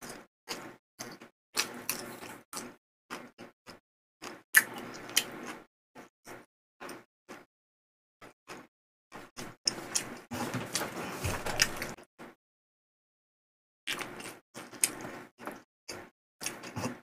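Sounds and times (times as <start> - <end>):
chewing food: 0.0 - 7.5, 8.2 - 12.0, 13.9 - 17.0.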